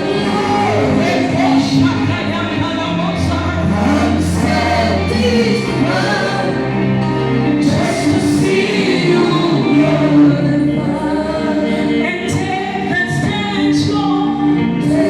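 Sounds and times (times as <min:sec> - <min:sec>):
choir singing gospel music: 0:00.0 - 0:15.0
sustained bass notes: 0:00.0 - 0:15.0.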